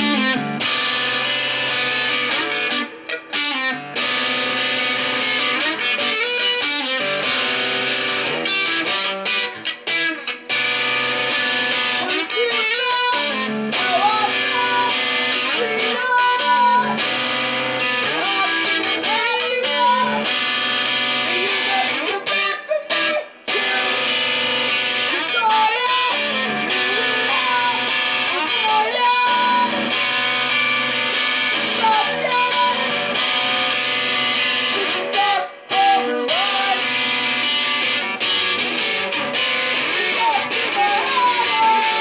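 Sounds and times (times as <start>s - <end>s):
distorted electric guitar riffs: 0.0s - 42.0s.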